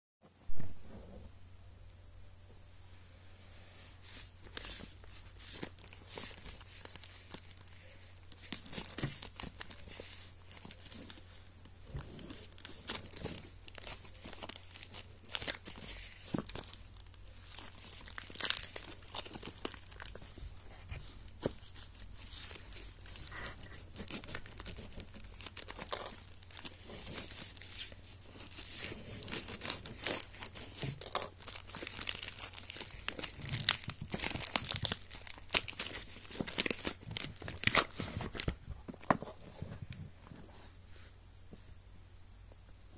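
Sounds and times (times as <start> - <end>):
plastic packaging tearing and crinkling: 4.2 - 39.5.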